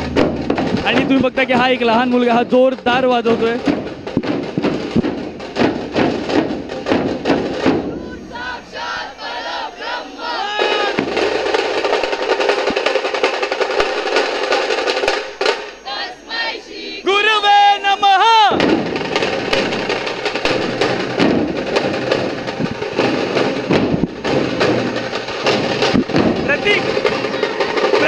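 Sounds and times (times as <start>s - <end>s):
dhol drums playing fast rhythm: 0.0s - 8.0s, 10.6s - 15.8s, 18.5s - 28.0s.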